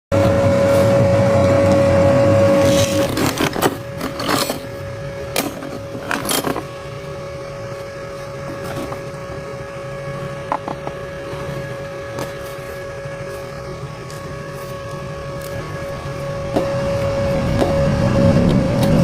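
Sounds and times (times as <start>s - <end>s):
steady mechanical hum: 0.1s - 19.0s.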